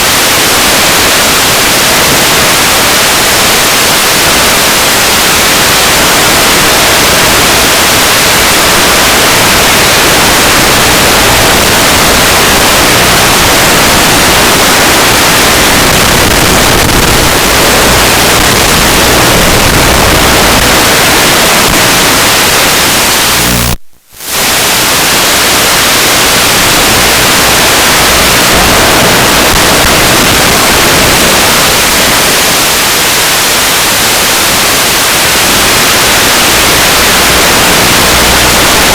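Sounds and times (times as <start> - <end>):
static hiss from video receiver: 0.0 - 38.9.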